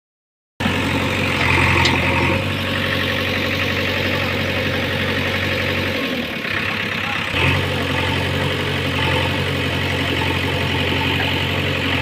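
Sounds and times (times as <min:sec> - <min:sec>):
diesel engine running: 0:00.6 - 0:12.0.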